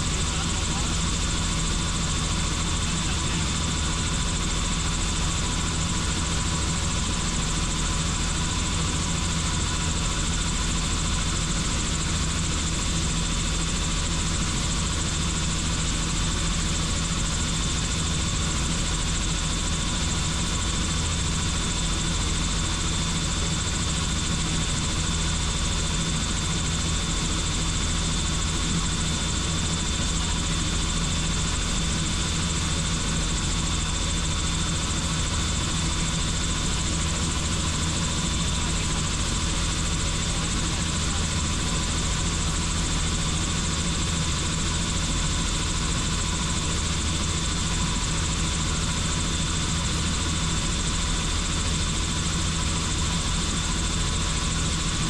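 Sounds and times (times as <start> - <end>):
helicopter flying: 0.0 - 55.0.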